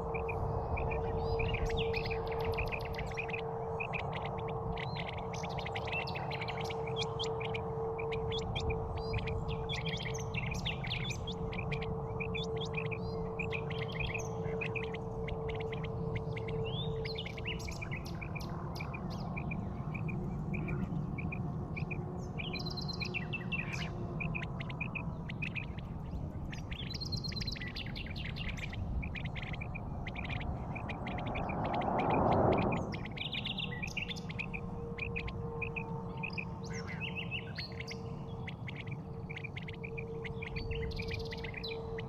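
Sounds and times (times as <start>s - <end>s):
birds chirping and trilling: 0.0s - 42.0s
steady low rumble: 0.0s - 42.0s.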